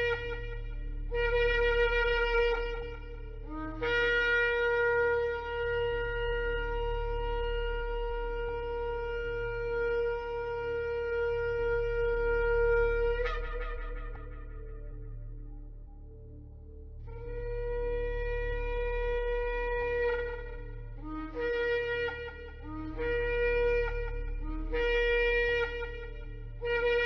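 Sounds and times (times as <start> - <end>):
shofar blasts: 0.0 - 15.0, 17.2 - 27.0.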